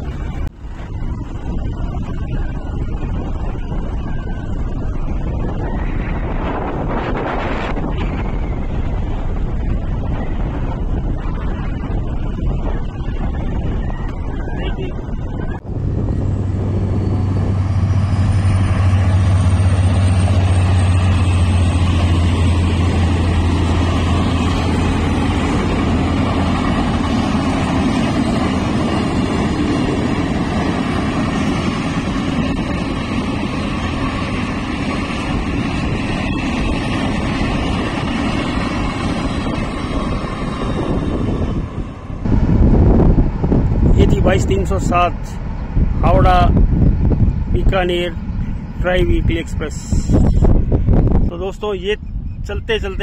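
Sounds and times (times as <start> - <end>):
train coaches rolling rumble: 0.0 - 53.0
train low hum: 0.0 - 53.0.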